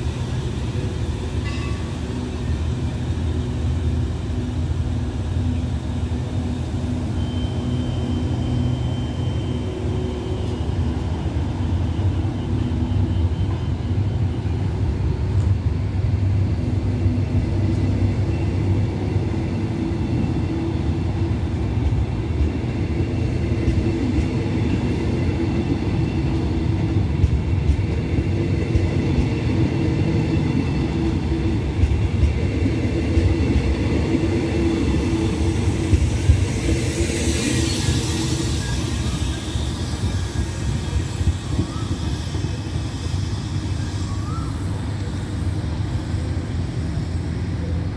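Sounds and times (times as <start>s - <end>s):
train hiss: 0.0s - 47.9s
train wheels rumbling on rail: 0.0s - 47.9s.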